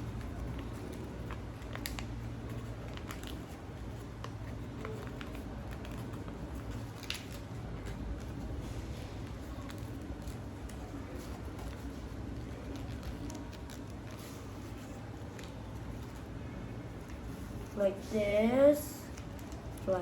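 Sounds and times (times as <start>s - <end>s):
paper being folded and creased: 0.0s - 17.8s, 19.1s - 20.0s
steady low hum: 0.0s - 20.0s.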